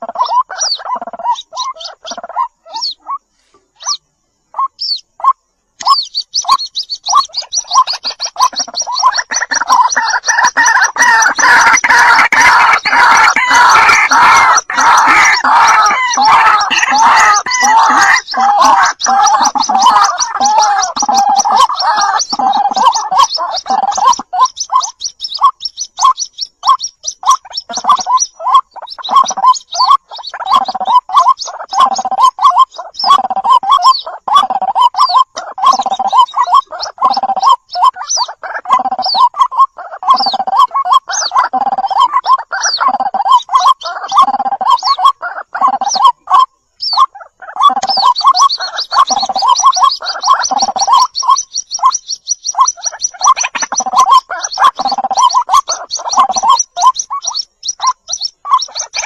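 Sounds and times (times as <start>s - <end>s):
bird gargling croaky calls: 0.0s - 3.2s, 7.2s - 25.6s, 27.2s - 51.9s, 52.7s - 59.0s.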